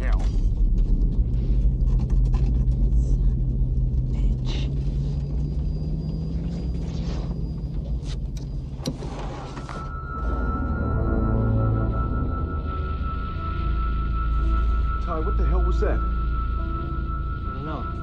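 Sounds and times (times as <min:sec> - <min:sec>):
aircraft engine rumble: 0:00.0 - 0:18.0.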